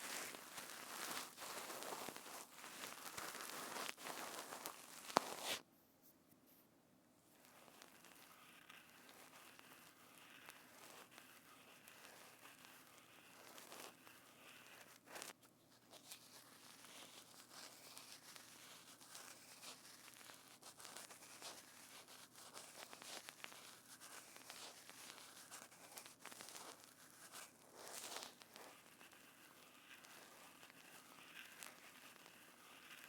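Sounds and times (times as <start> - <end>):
hands crackling and rustling material: 0.0 - 5.7, 7.3 - 33.0.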